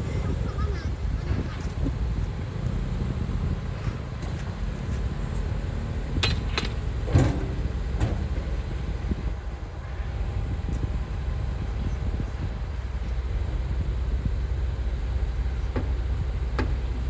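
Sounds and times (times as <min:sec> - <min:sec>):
heavy machinery diesel rumble: 0:00.0 - 0:17.0.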